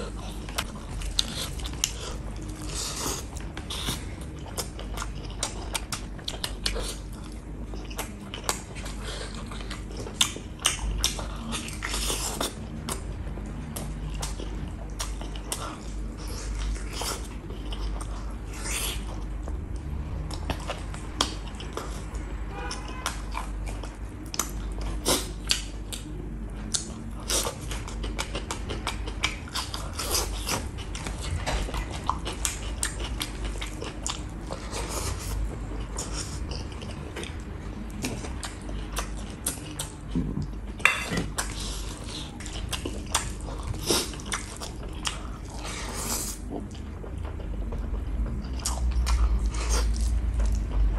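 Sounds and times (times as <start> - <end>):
chewing and lip smacking: 0.0 - 50.9.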